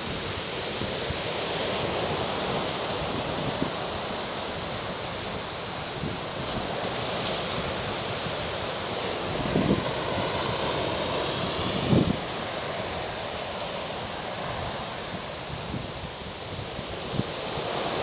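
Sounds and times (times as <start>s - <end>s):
ocean surf washing on beach: 0.0s - 18.0s
wind on microphone: 0.0s - 18.0s.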